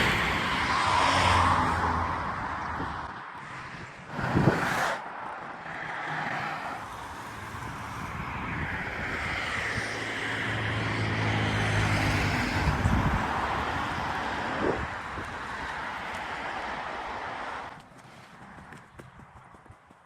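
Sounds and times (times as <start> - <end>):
motor vehicle passing: 0.0 - 2.9, 3.7 - 19.8.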